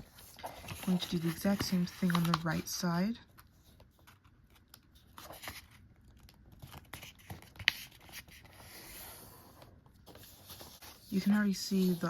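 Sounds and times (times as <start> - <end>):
paper folding and rustling: 0.0 - 12.0.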